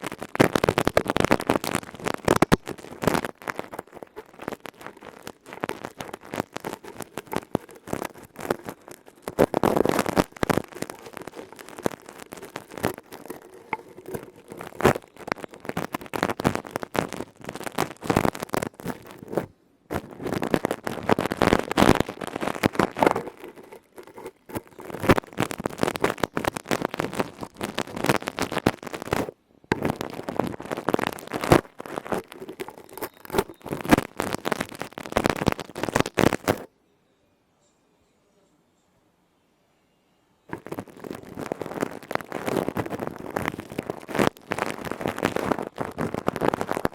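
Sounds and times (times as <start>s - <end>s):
tapping and scratching on objects: 0.0s - 36.7s, 40.5s - 46.9s.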